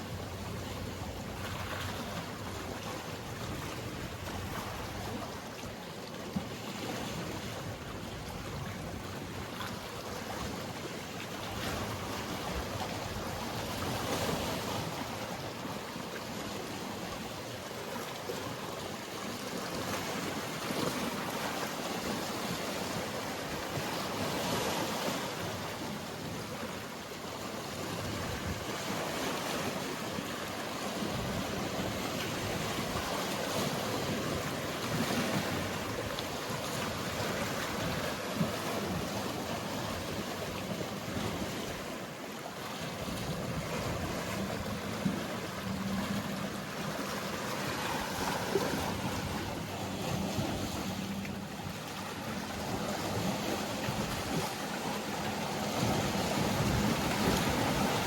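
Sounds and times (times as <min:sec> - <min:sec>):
faint distant boat engine hum: 0:00.0 - 0:58.0
sea waves washing on shore: 0:00.0 - 0:58.0.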